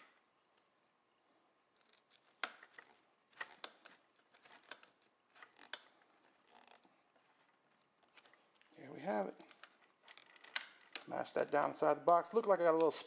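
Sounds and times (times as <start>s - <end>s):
wires twisting and crinkling: 0.0s - 13.0s.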